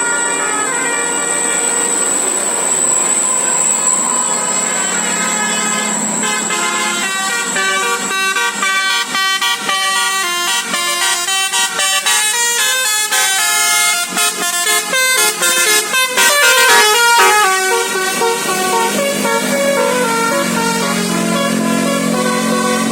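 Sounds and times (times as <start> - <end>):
musical bus air horn melody: 0.0 - 2.5, 4.0 - 22.9.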